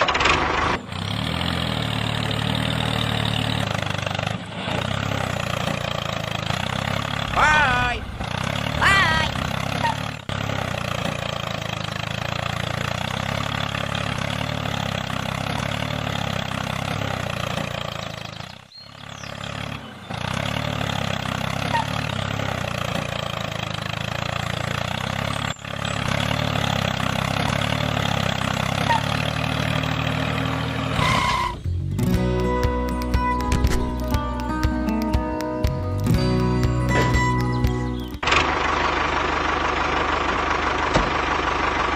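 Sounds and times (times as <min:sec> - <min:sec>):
tractor engine idling: 0:00.0 - 0:41.9.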